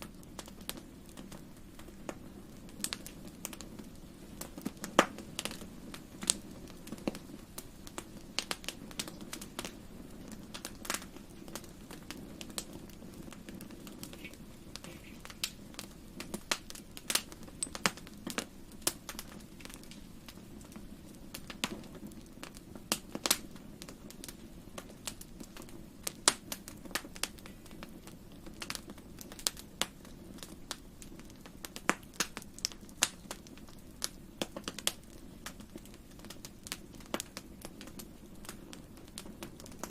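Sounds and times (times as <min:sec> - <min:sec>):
low rumble of flames: 0:00.0 - 0:39.9
wood fire pops and snaps: 0:00.0 - 0:39.9.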